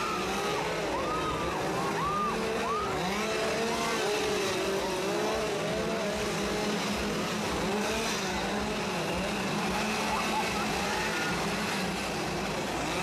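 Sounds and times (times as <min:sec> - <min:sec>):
chainsaws revving: 0:00.0 - 0:13.0.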